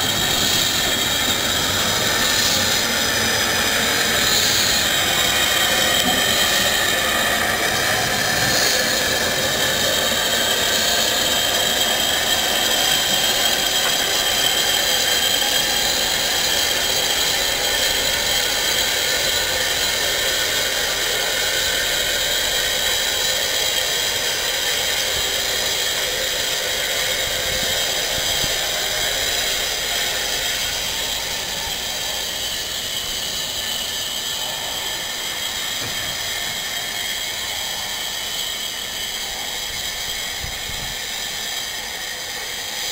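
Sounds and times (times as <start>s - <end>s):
steam hissing from locomotive: 0.0s - 42.9s.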